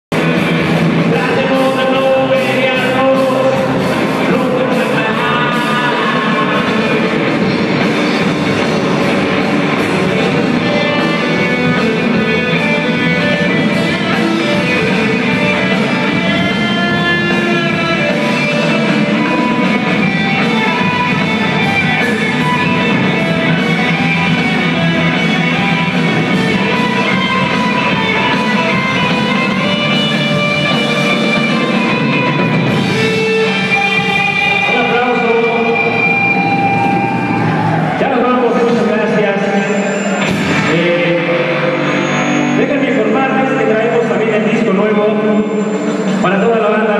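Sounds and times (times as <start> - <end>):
rock music with guitar: 0.1 - 46.9.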